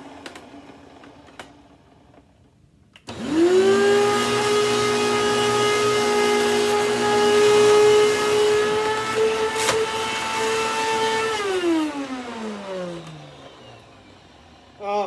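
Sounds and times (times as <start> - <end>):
vacuum cleaner motor whine: 0.0 - 2.2, 3.0 - 15.0.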